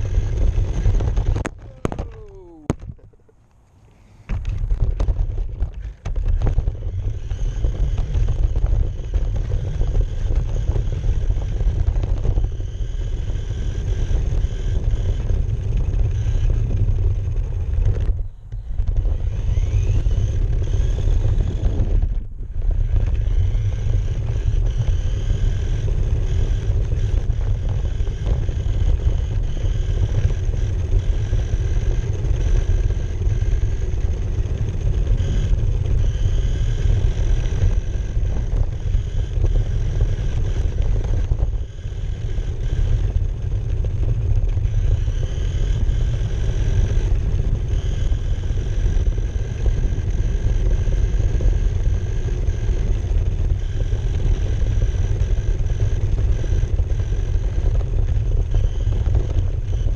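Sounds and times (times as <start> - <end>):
faint motor whine: 0.0 - 59.9
rc car rumbling over asphalt: 0.0 - 59.9.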